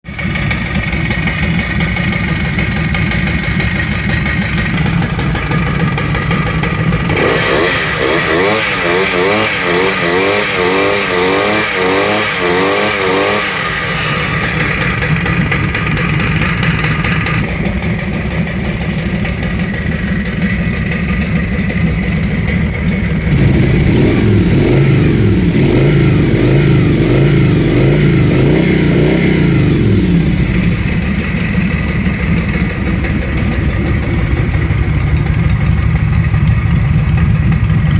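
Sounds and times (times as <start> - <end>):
loud motorcycle engine: 0.0 - 37.9
motorcycle engine revving: 0.0 - 37.9.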